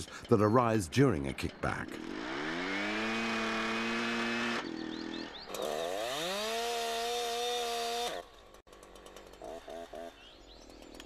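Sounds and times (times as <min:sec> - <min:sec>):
chainsaw engine revving: 0:01.9 - 0:11.0.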